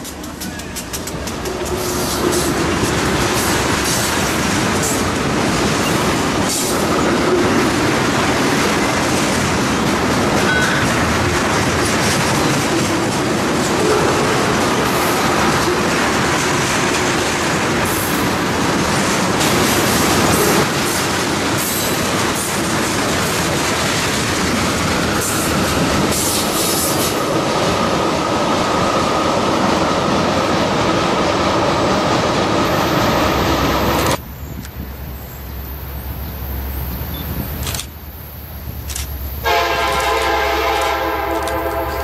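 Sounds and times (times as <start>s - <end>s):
freight train wheels on rails: 0.0s - 42.0s.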